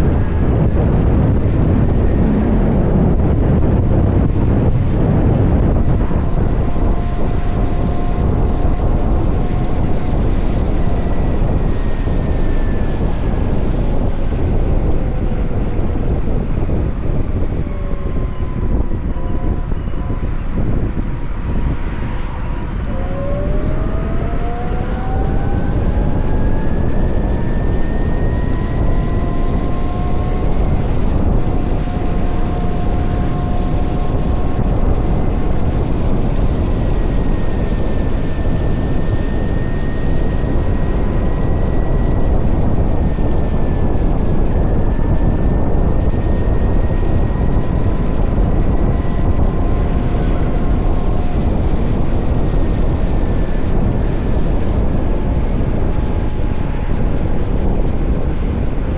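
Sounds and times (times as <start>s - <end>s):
electric motor whine: 0.0s - 58.9s
wind and road noise: 0.0s - 58.9s.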